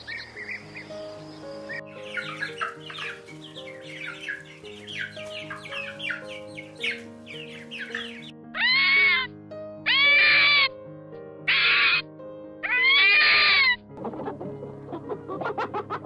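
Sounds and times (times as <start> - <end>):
chickens cheeping and clucking: 0.0 - 9.3, 11.5 - 12.0, 12.6 - 16.0
light background music: 0.0 - 16.0.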